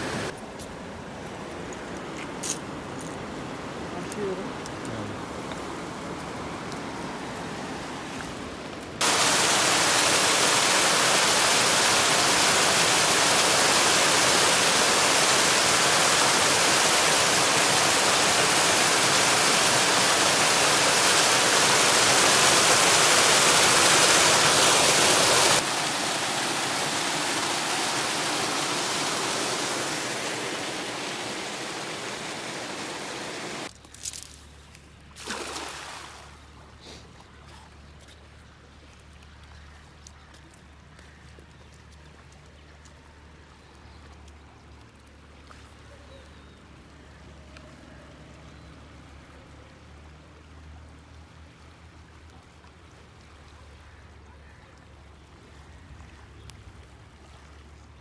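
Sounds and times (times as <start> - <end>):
rush of flowing water: 0.0 - 0.4, 1.0 - 33.7, 35.2 - 37.2, 38.5 - 58.0.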